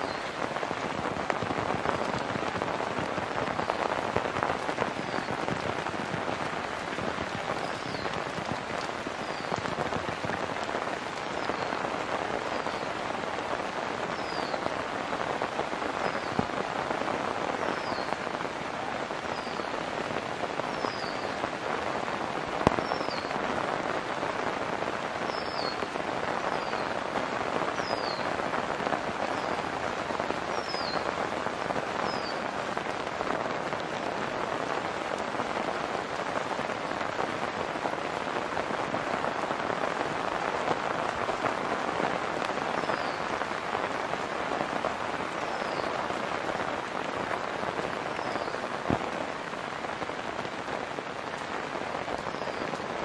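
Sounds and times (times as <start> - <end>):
rain on paved lane: 0.0 - 53.0.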